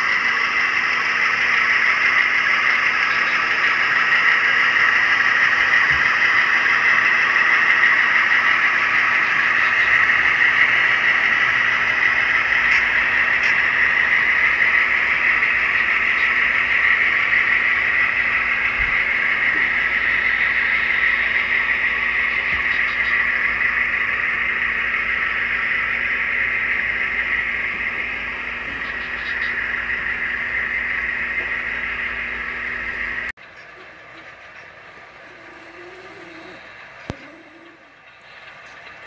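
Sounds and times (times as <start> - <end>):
model train wheels and motor whir: 0.0 - 39.0.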